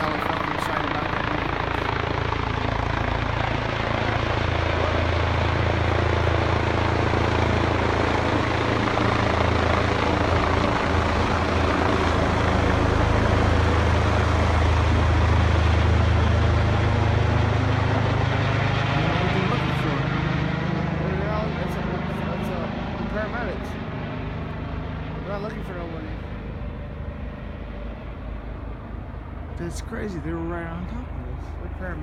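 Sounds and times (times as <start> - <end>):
helicopter rotor and engine noise: 0.0 - 32.0.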